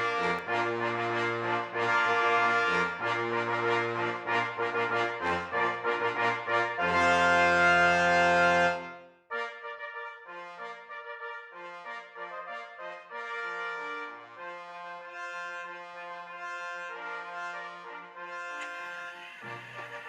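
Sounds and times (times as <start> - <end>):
brass band music: 0.0 - 20.0.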